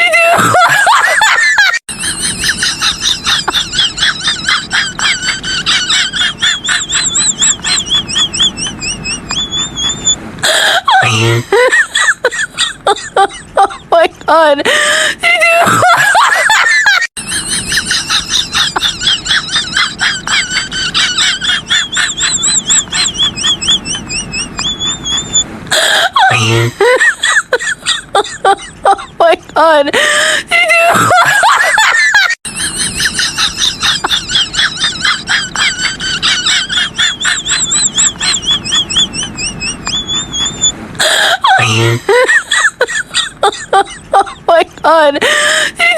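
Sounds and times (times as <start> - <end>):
squeaky cackling laugh: 0.0 - 45.9.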